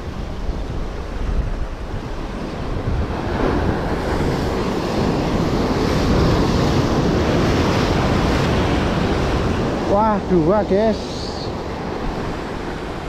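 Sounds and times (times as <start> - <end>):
sea surf washing in: 0.0 - 13.0
wind buffeting microphone: 0.0 - 13.0.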